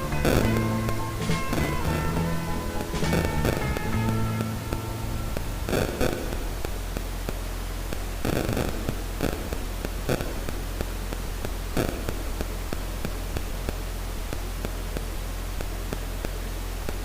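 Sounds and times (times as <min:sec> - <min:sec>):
low electrical hum: 0:00.0 - 0:17.0
microphone hiss: 0:00.0 - 0:17.0.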